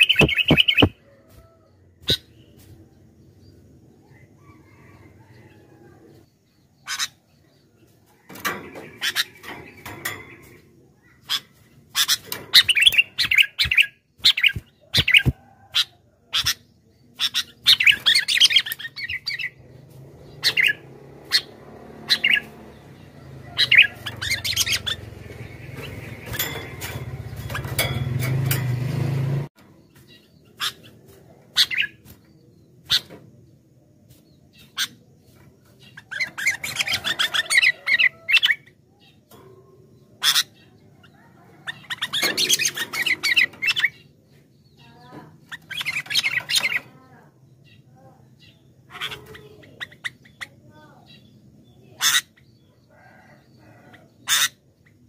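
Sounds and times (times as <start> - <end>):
bird chirping and chattering: 0.0 - 1.0, 2.0 - 2.7, 6.4 - 28.7, 29.8 - 33.6, 34.4 - 55.0.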